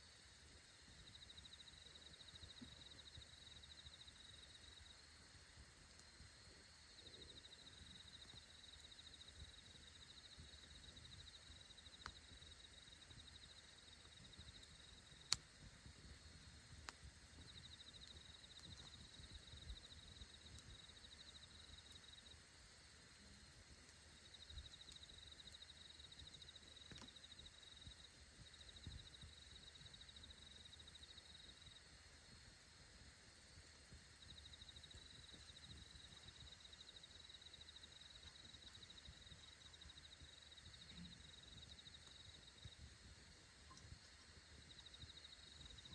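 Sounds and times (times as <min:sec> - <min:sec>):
campfire crackling: 0:00.1 - 0:45.9
insects chirring: 0:00.1 - 0:45.9.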